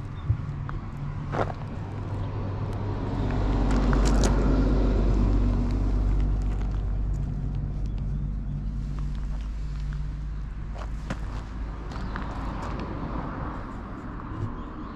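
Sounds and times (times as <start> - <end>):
vehicle passing rumble: 0.0 - 14.9.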